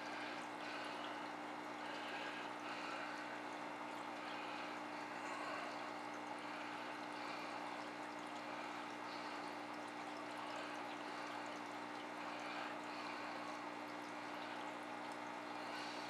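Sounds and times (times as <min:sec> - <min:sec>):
aquarium water trickling and splashing: 0:00.0 - 0:16.0
pump humming: 0:00.0 - 0:16.0.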